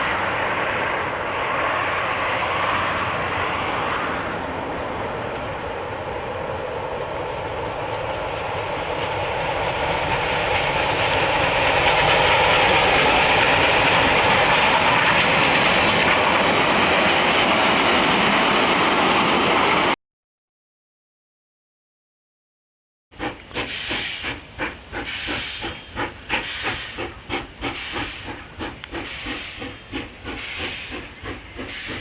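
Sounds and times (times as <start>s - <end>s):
train running by: 0.0s - 20.0s, 23.1s - 32.0s.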